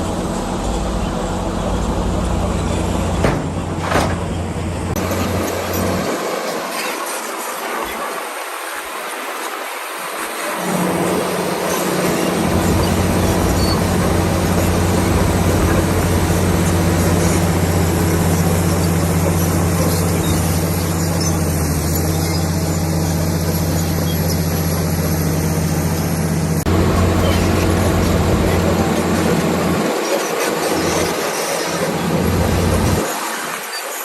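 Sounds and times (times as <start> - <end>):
bulldozer diesel engine droning: 0.0 - 8.5, 10.3 - 33.7.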